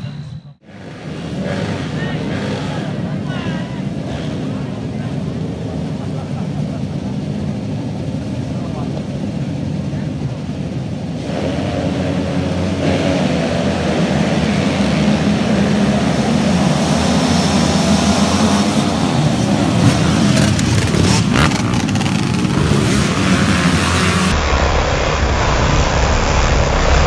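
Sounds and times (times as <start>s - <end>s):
motorcycle engines running hard: 0.6s - 27.0s.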